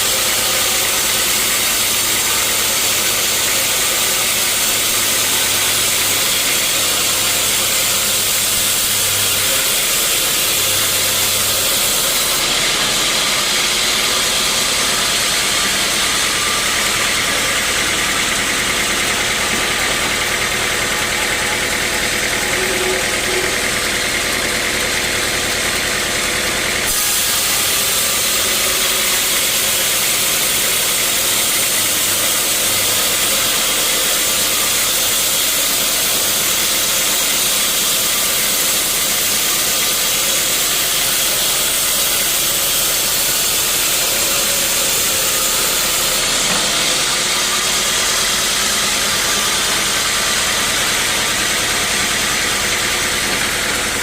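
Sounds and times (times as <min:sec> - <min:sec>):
saw blade hissing through wood: 0:00.0 - 0:20.2, 0:26.8 - 0:54.0
sawmill saw running: 0:00.0 - 0:54.0.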